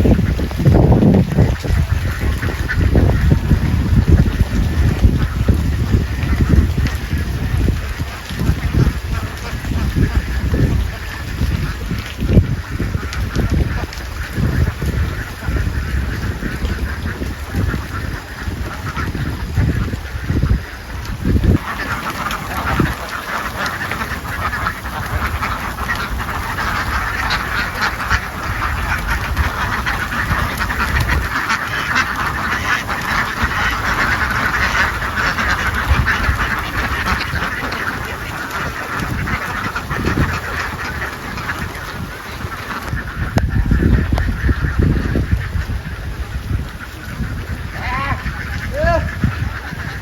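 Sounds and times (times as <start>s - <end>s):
flock of ducks quacking: 0.0s - 50.0s.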